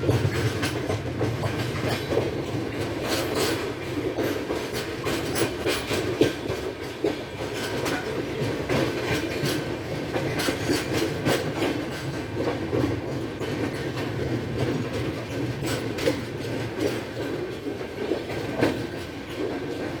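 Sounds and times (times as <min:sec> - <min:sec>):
train rumbling on track: 0:00.0 - 0:20.0
wheels clicking over rail joints: 0:00.0 - 0:20.0.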